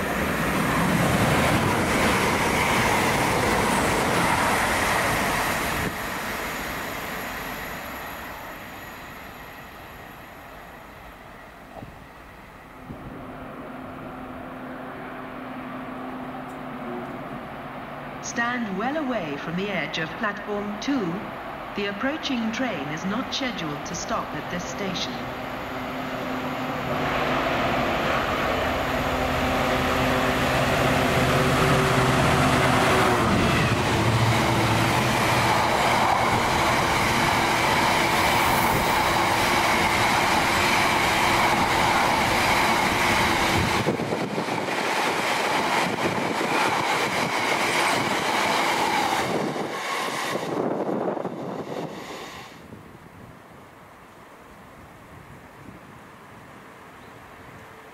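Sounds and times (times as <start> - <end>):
diesel locomotive engine: 0.0 - 57.9.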